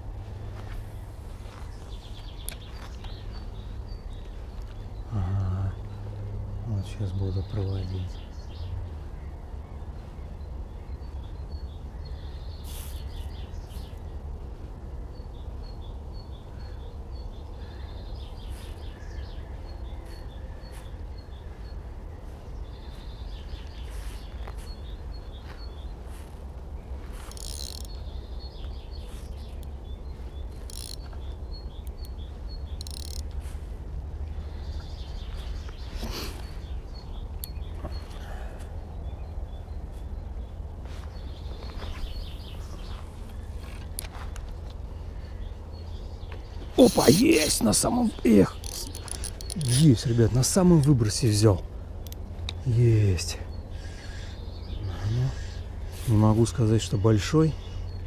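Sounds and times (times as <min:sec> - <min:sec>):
steady low rumble: 0:00.0 - 0:46.8
birds chirping: 0:00.0 - 0:58.0.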